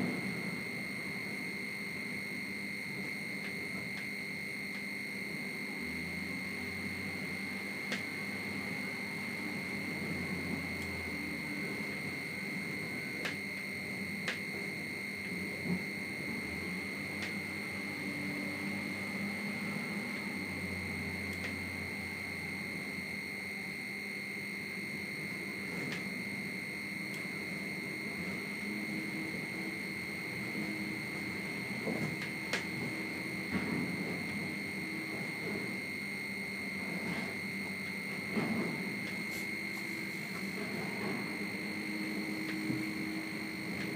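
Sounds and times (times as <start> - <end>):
alarm buzzer steady high tone: 0.0 - 43.9
low machinery hum: 0.0 - 43.9.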